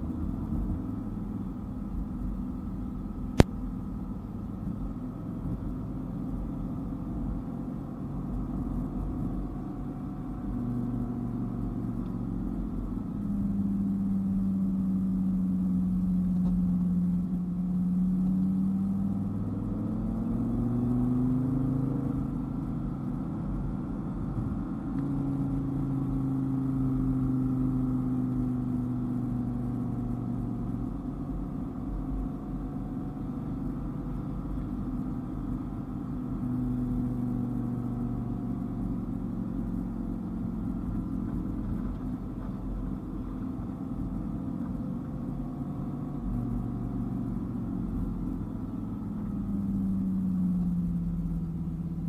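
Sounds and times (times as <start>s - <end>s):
car engine running: 0.0s - 52.0s
road and tyre rumble: 0.0s - 52.0s.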